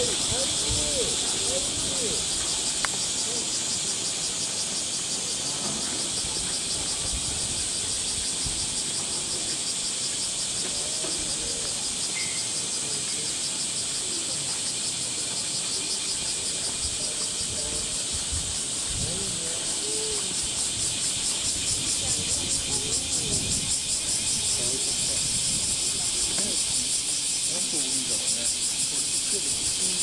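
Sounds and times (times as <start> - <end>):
cicadas droning: 0.0 - 30.0.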